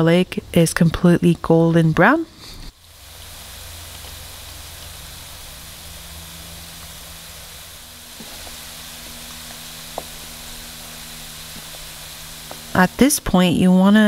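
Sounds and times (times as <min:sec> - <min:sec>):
garlic sizzling in oil: 0:02.7 - 0:14.0.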